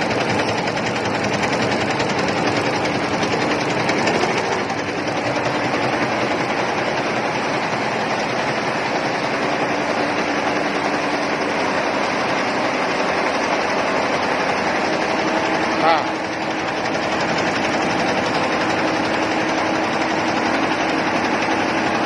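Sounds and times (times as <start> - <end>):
embroidery machine clattering: 0.0 - 22.0.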